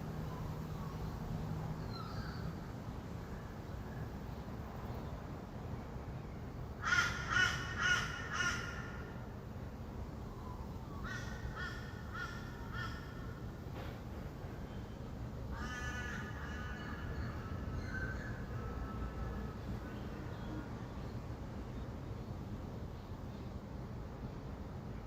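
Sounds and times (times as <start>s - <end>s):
distant traffic hum: 0.0s - 25.0s.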